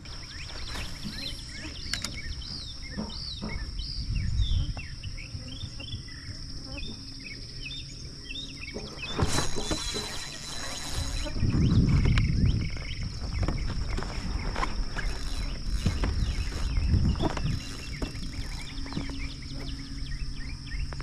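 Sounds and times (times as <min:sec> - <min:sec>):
songbirds chirping and singing: 0:00.0 - 0:21.0
steady high-pitched whine: 0:00.0 - 0:21.0
wind rumble on microphone: 0:00.0 - 0:21.0.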